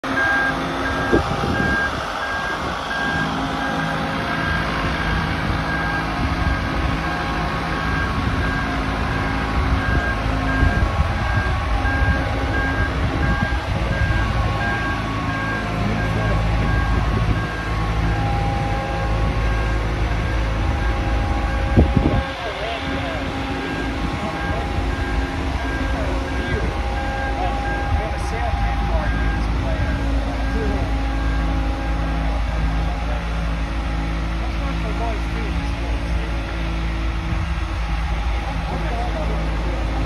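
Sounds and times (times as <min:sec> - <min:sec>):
warning alarm beeping: 0:00.0 - 0:33.0.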